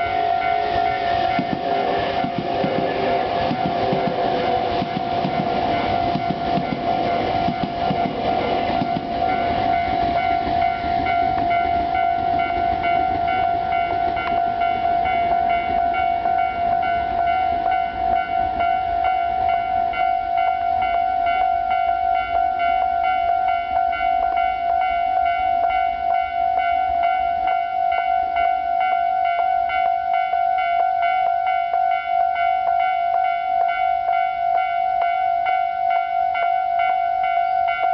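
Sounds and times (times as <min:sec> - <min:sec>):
level crossing warning bell: 0:00.0 - 0:37.9
passing train rumble: 0:00.0 - 0:37.9.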